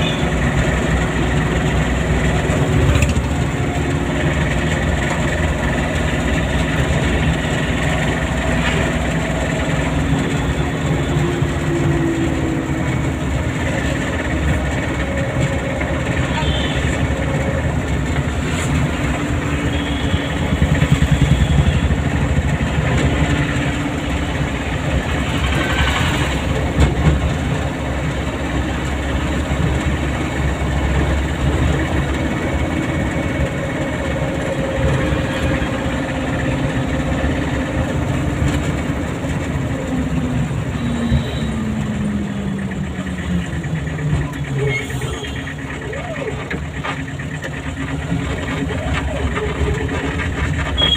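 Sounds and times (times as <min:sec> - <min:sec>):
car engine running: 0:00.0 - 0:50.9
road noise: 0:00.0 - 0:50.9.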